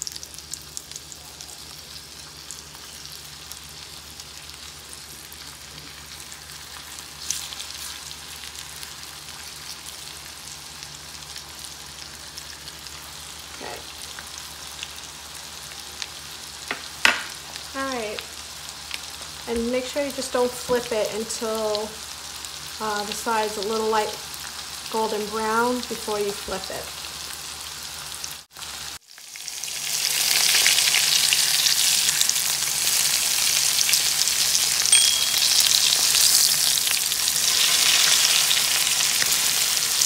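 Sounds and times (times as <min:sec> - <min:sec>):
chicken frying with crackling: 0:00.0 - 0:40.0.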